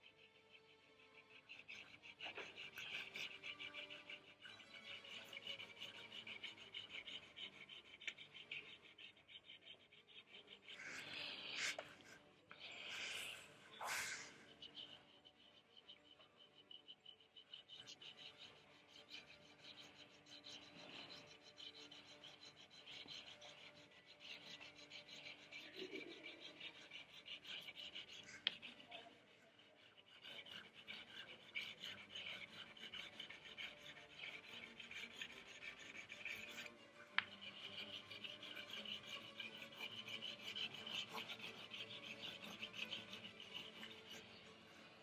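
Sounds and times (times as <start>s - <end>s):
drawing stick scratching paper: 0.0s - 45.0s.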